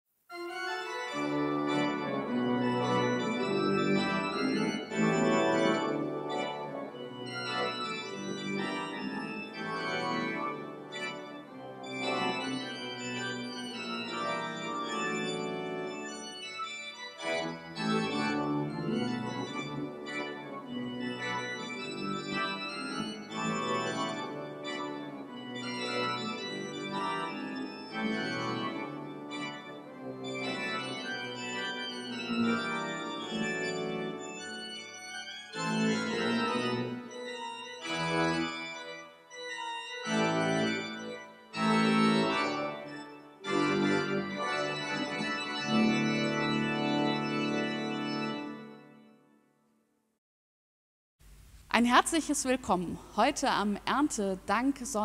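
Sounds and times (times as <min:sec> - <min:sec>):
organ playing sustained chords: 0:00.4 - 0:49.2.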